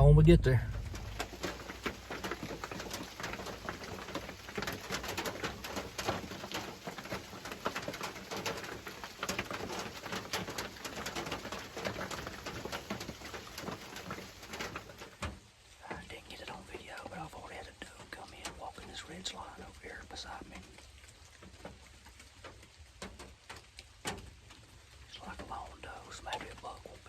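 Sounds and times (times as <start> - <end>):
light rain pattering: 0.0 - 27.0.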